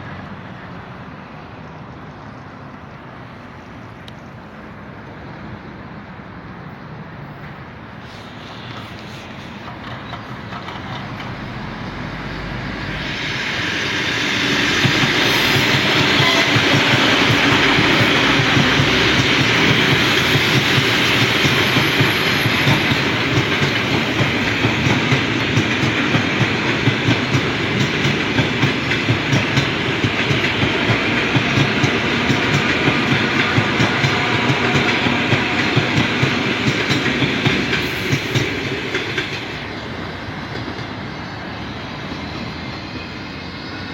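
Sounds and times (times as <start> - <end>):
train wheels clicking over rails: 7.4 - 43.8.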